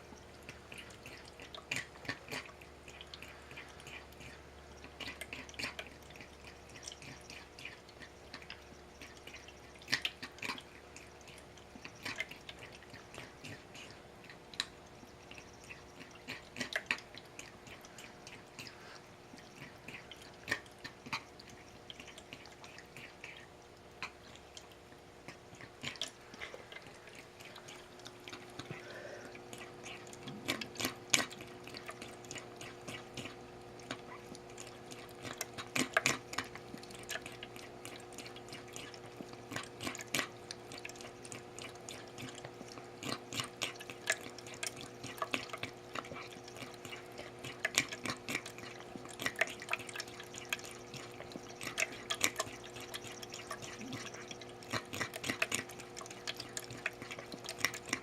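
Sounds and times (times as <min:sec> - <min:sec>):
pet lapping water: 0:00.0 - 0:58.0
steady low hum: 0:00.0 - 0:58.0.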